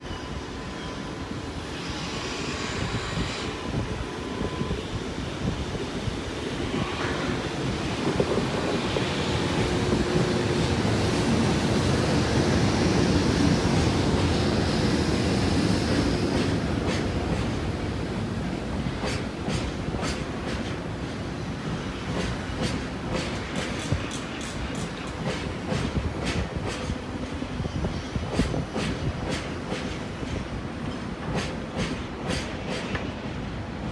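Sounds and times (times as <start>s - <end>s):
freight train rumbling past: 0.0s - 33.9s
train wheels clickety-clack: 1.8s - 33.9s.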